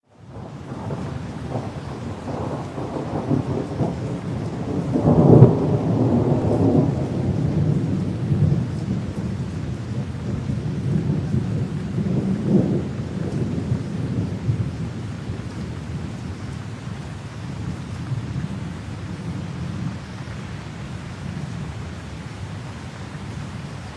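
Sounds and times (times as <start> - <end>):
rain patter: 0.0 - 23.9
thunder rumbling: 0.2 - 23.9.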